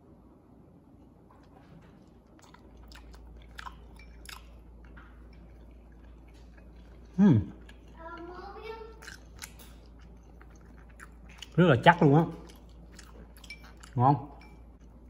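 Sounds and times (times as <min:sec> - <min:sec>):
person chewing: 0:01.3 - 0:15.0.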